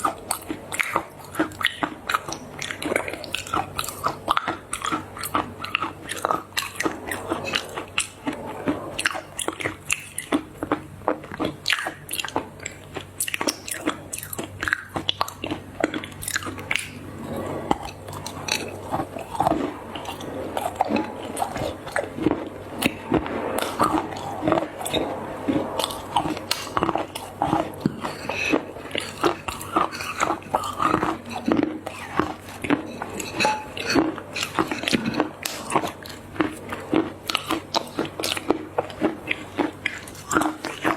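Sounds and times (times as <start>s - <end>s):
chewing crunchy chocolate: 0.0s - 40.9s.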